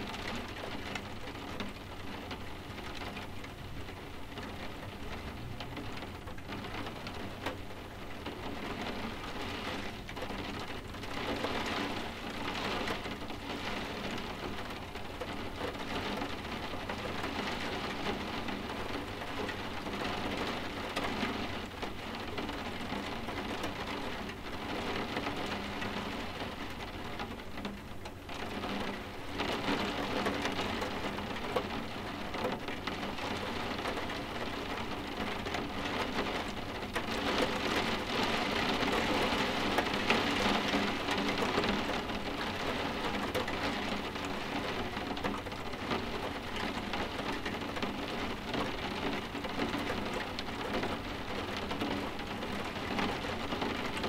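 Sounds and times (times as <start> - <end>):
rain tapping on window glass: 0.0 - 54.0.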